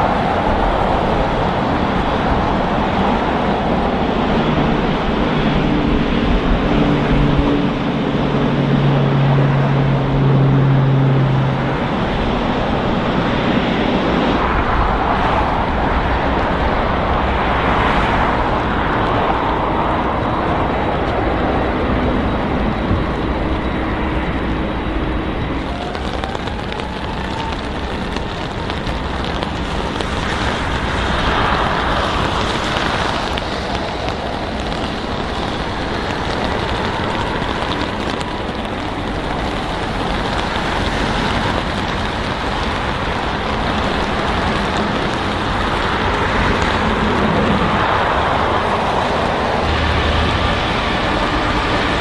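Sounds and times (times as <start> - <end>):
jet engines rumbling: 0.0 - 52.0
rising whine: 0.0 - 52.0.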